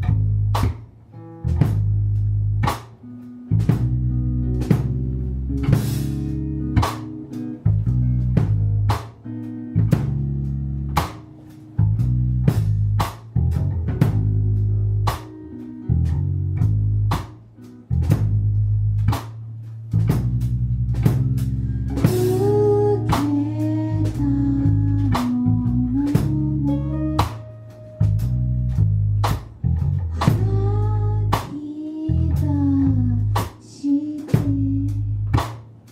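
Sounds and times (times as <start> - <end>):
bass guitar notes: 0.0 - 35.9
drum kit beat: 0.0 - 35.9
guitar melody: 0.0 - 35.9.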